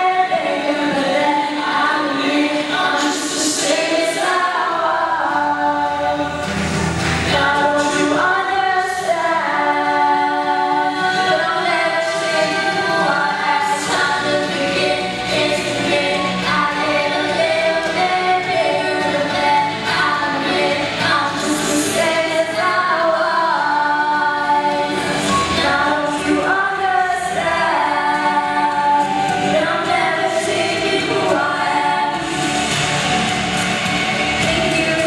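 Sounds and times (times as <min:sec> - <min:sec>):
women singing a duet: 0:00.0 - 0:06.5, 0:07.3 - 0:35.0.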